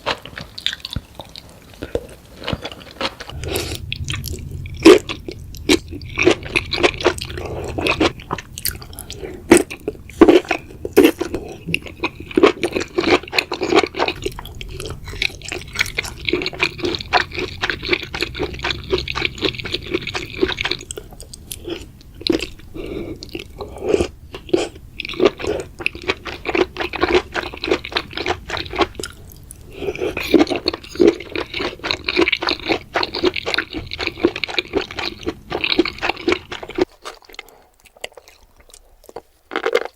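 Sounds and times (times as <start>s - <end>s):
chewing and crunching mushrooms: 0.0s - 39.9s.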